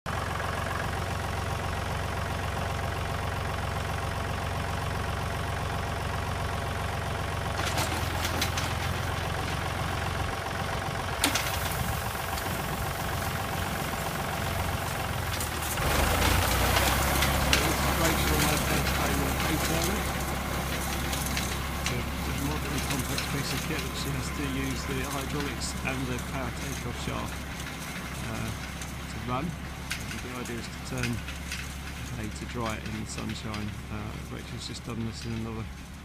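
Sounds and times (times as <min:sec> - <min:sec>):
tractor engine running: 0:00.1 - 0:36.0.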